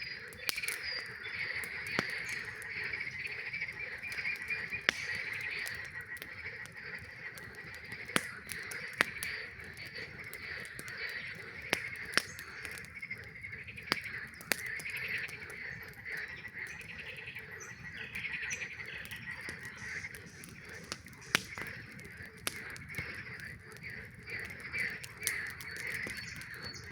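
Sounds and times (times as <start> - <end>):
campfire crackling and popping: 0.0 - 26.9
frogs trilling: 0.0 - 26.9.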